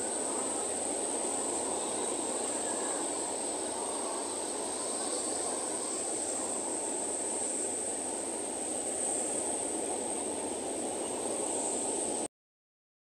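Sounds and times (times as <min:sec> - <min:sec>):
constant high hiss: 0:00.0 - 0:12.3.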